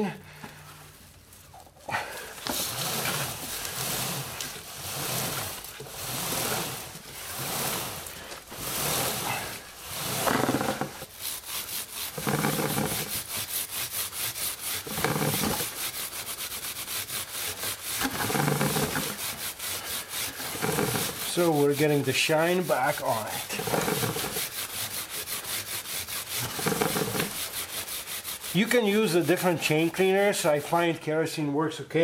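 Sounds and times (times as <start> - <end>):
brush scrubbing motorcycle chain: 0.6 - 30.9.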